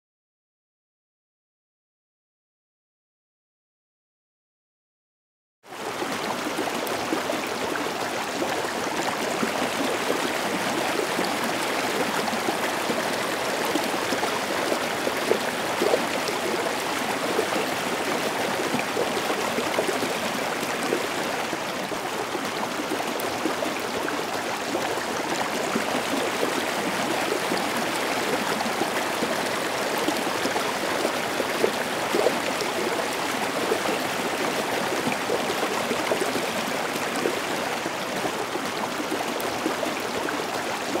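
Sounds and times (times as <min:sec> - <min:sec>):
stream splashing down cascade: 0:05.8 - 0:41.0.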